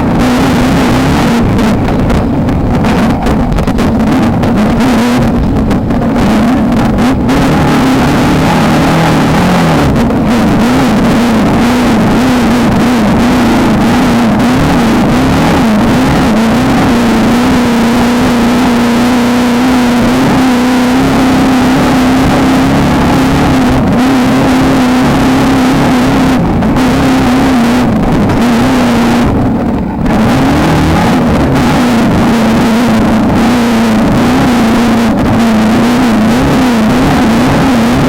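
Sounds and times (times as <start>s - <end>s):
race car engine at high revs: 0.0s - 38.0s.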